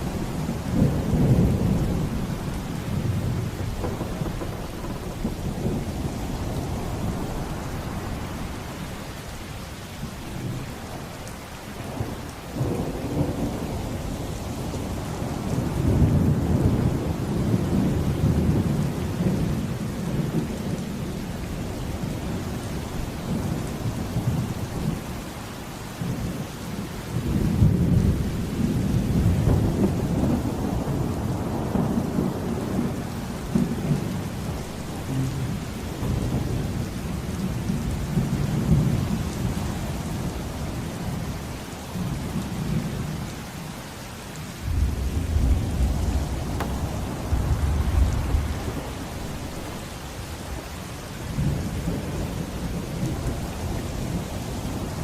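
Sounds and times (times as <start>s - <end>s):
rolling thunder: 0.0s - 41.3s, 44.6s - 55.0s
steady rain: 0.0s - 55.0s.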